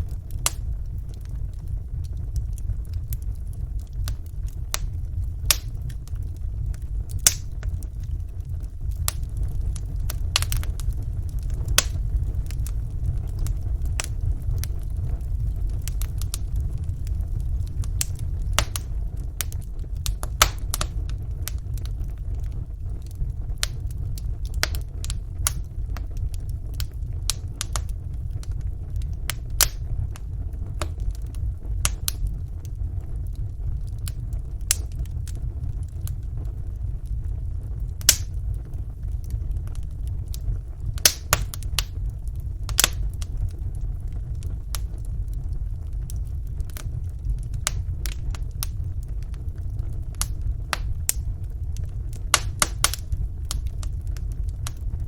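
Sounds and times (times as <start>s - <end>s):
fire crackling and popping: 0.0s - 55.0s
fire low rumble: 0.0s - 55.0s.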